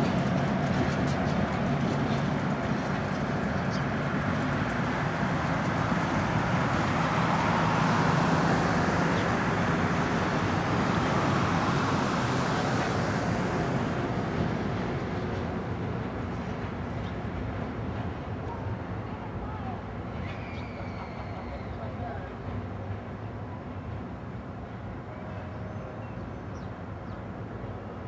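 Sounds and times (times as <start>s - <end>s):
diesel locomotive rumbling past: 0.0s - 28.0s.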